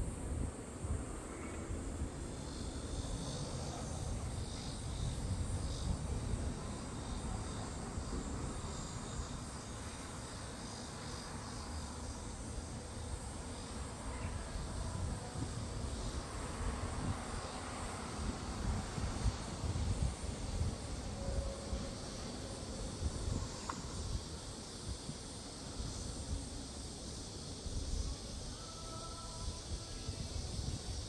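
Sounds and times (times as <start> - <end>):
wind gusting over microphone: 0.0 - 10.3, 13.9 - 28.6, 29.4 - 31.0
insects chirping: 0.0 - 31.0.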